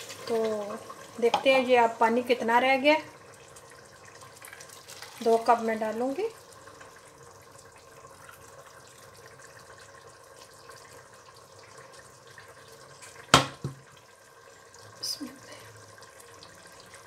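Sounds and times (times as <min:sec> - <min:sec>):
liquid trickling: 0:03.0 - 0:17.0.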